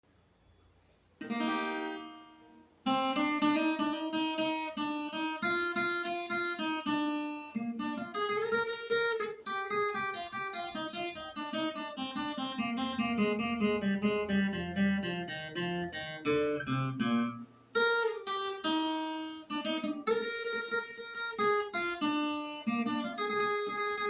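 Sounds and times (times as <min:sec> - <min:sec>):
guitar plucked and strummed: 0:01.2 - 0:24.0.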